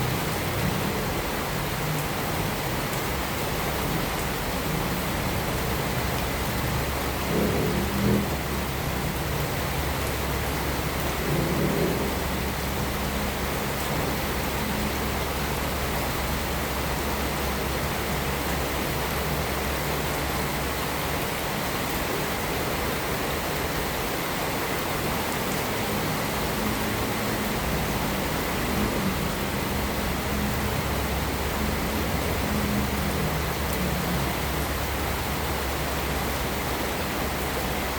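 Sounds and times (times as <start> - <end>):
heavy rain: 0.0 - 37.9.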